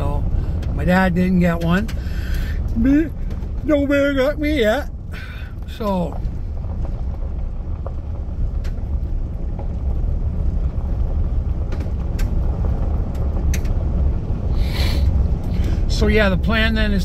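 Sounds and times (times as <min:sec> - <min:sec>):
truck engine and tyres rumbling: 0:00.0 - 0:17.0.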